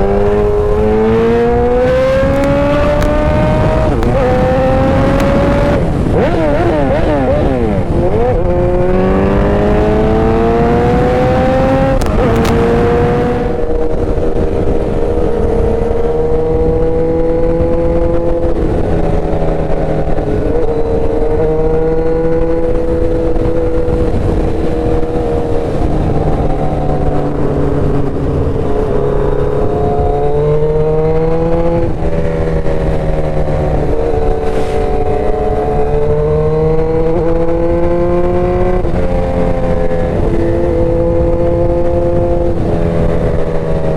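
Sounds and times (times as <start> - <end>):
motorcycle engine running: 0.0 - 43.9
wind on microphone: 0.0 - 43.9.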